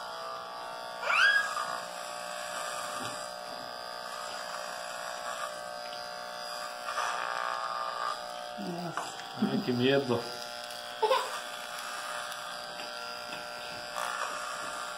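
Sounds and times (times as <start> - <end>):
hair clipper buzzing: 0.0 - 14.9.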